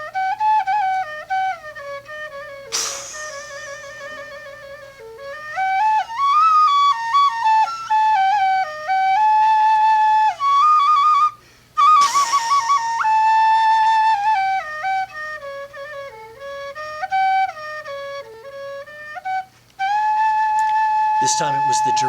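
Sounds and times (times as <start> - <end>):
solo flute melody: 0.0 - 22.0.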